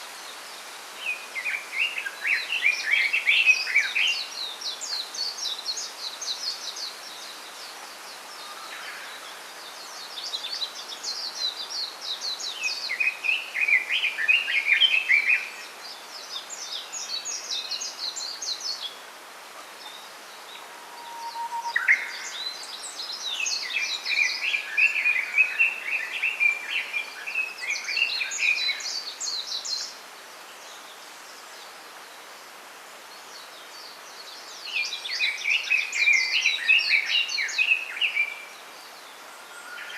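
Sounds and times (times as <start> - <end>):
faint hiss: 0.0 - 39.9
songbirds twittering: 0.2 - 39.9.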